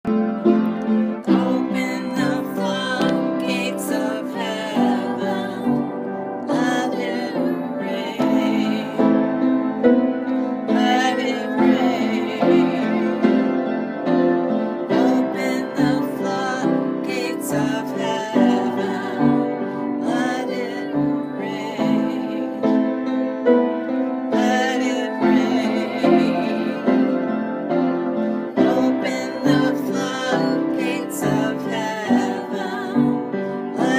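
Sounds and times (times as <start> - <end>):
person singing: 0.0 - 33.9
piano chords: 0.0 - 33.9.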